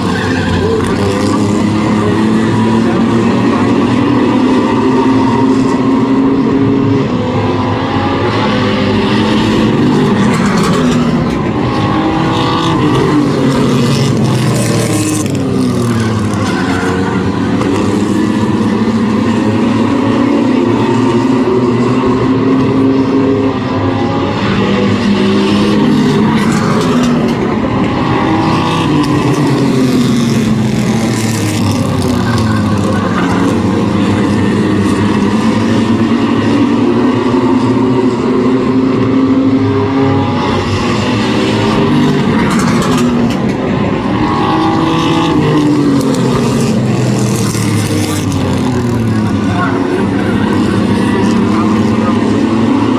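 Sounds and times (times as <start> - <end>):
race truck engines sweeping: 0.0 - 52.9.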